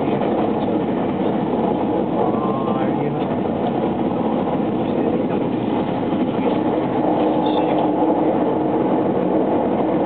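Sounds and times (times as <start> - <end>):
steady train hum: 0.0 - 10.0
wheels rumbling on rail: 0.0 - 10.0.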